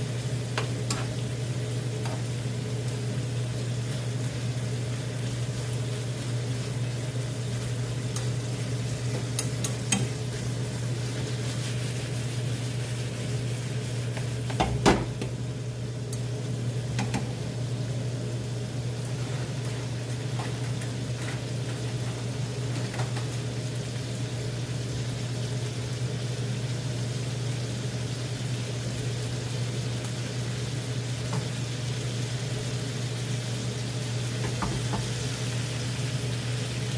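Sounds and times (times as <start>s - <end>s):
meat and potatoes sizzling in pan: 0.0s - 36.9s.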